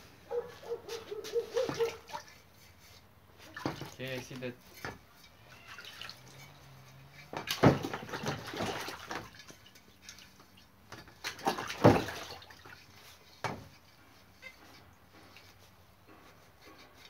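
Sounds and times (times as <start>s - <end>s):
water splashing and sloshing: 0.4s - 17.0s.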